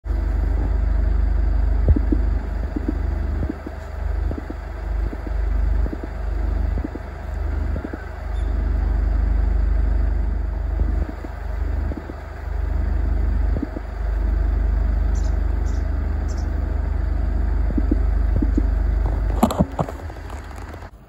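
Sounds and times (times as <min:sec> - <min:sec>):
low uneven rumble: 0:00.1 - 0:21.0.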